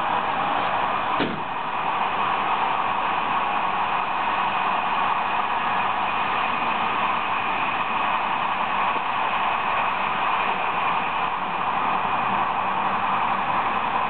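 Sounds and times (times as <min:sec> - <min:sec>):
train wheels rushing on rail: 0:00.0 - 0:14.0.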